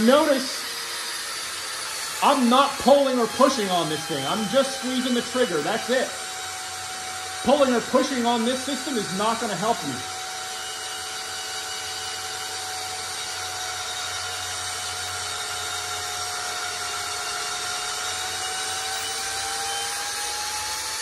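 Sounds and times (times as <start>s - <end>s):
cordless drill motor whine: 0.0s - 21.0s.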